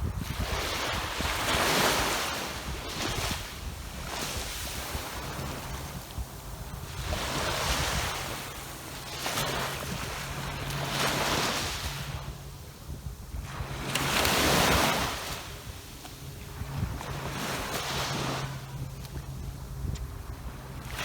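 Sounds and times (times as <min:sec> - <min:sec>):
waves breaking on a beach: 0:00.0 - 0:21.0
wind rumble on microphone: 0:00.0 - 0:21.0.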